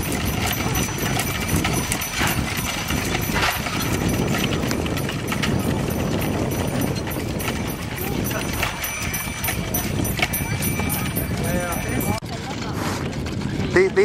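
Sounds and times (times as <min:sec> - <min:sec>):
wooden whirligigs clacking: 0:00.0 - 0:12.6
wind buffeting microphone: 0:00.0 - 0:14.0.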